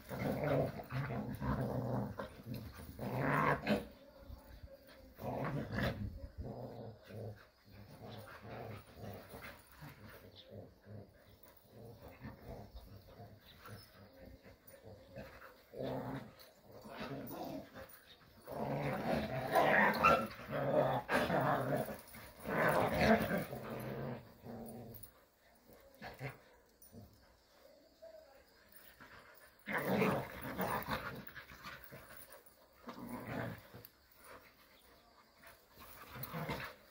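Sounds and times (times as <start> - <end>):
dogs growling: 0.0 - 27.8, 28.4 - 36.9.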